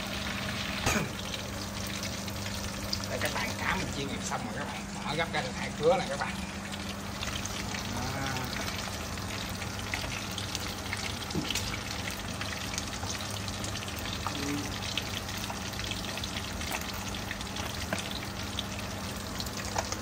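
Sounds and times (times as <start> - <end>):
steady low hum: 0.0 - 19.7
fish sizzling in oil: 0.0 - 20.0.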